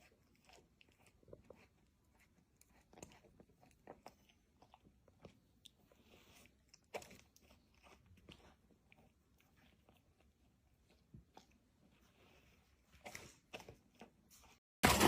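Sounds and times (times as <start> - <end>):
pet chewing and crunching: 0.0 - 15.0.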